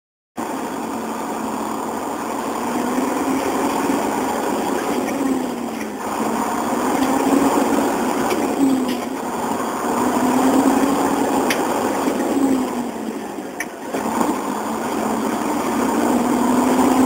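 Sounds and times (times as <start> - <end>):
engine running steadily: 0.4 - 17.0.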